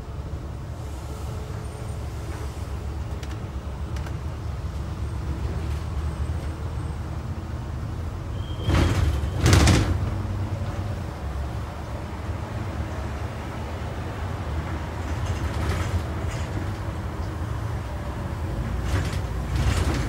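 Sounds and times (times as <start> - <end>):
bus rumbling along: 0.0 - 20.0.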